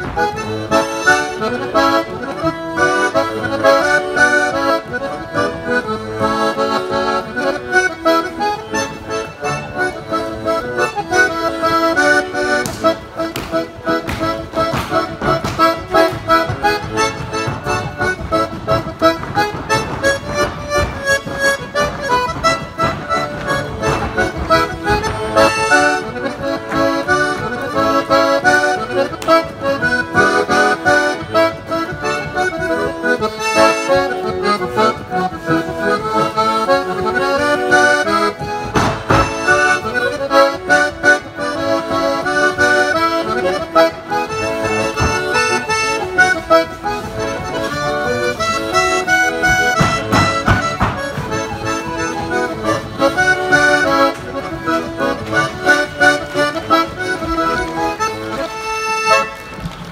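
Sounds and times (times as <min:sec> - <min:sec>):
folk dance tune on accordion: 0:00.0 - 0:59.9.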